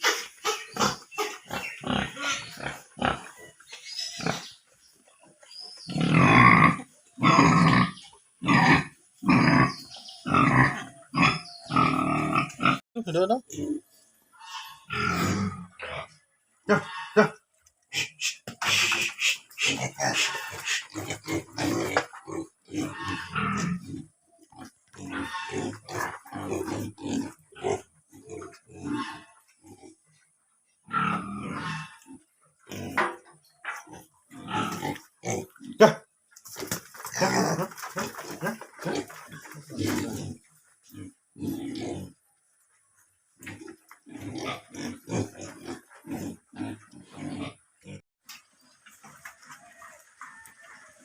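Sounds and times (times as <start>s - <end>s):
pigs grunting: 0.0s - 4.6s, 5.8s - 12.8s, 13.4s - 30.0s, 30.8s - 33.2s, 33.8s - 42.2s, 43.4s - 48.0s.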